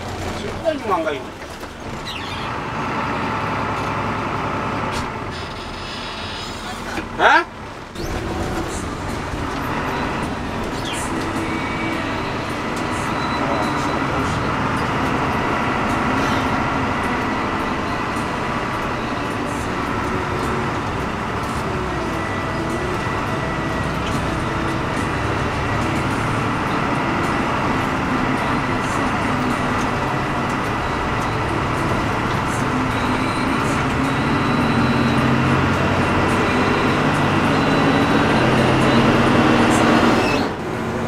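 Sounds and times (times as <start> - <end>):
diesel bus engine running: 0.0 - 41.0
road noise: 0.0 - 41.0.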